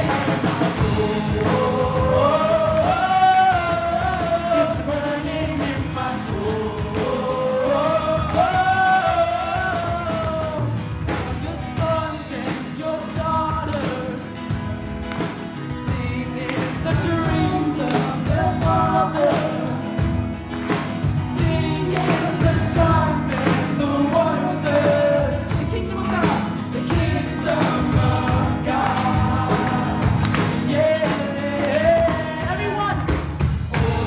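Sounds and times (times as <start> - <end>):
person singing: 0.0 - 14.4, 15.7 - 20.1, 21.2 - 33.2
acoustic guitar: 0.0 - 34.0
drum kit: 0.0 - 34.0.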